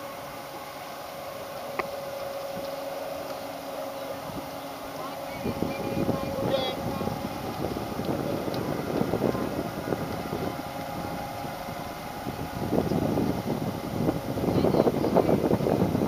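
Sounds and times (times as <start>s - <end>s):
wind buffeting microphone: 1.6s - 16.0s.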